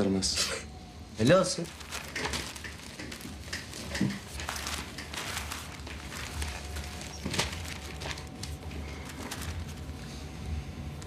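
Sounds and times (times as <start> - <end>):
steady low hum: 0.1 - 11.0
paper sheets rustling: 1.6 - 11.0.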